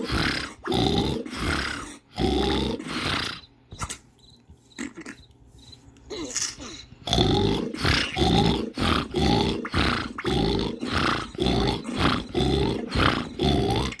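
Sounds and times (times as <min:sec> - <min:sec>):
person snoring loudly: 0:00.0 - 0:03.5, 0:06.1 - 0:14.0.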